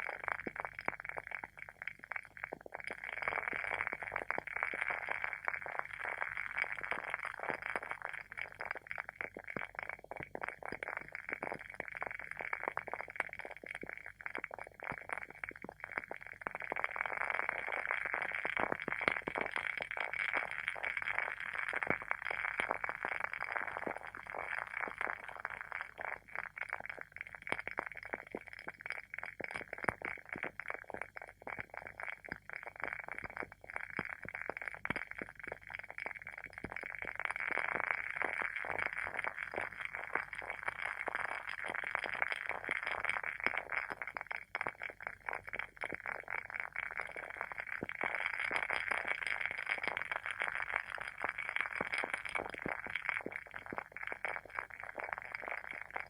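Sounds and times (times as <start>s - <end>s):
candle wick crackling pops: 0.0s - 56.0s.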